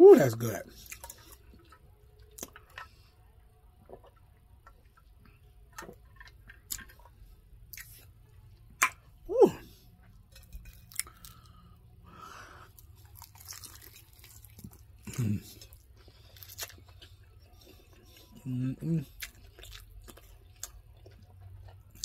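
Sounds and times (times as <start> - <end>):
person chewing: 0.7 - 3.0, 3.8 - 22.0.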